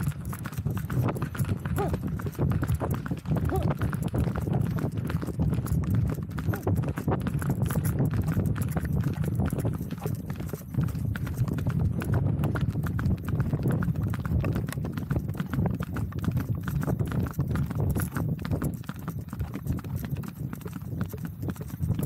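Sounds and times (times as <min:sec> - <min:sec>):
hooves clip-clopping on asphalt: 0:00.0 - 0:22.0.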